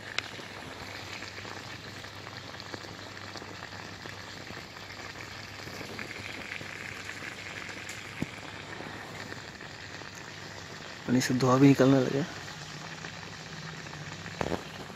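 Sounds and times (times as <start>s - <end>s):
water fizzing and crackling: 0.0s - 14.9s.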